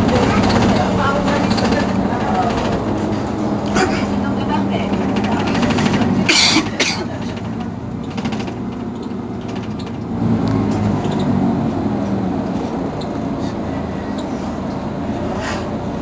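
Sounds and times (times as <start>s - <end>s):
bus diesel engine idling: 0.0s - 16.0s.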